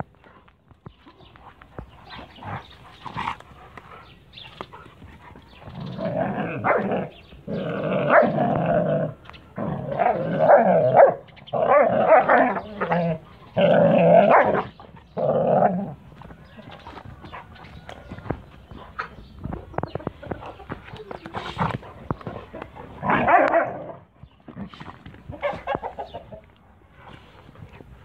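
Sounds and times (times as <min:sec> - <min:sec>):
dogs growling: 0:02.0 - 0:19.3, 0:20.2 - 0:28.0.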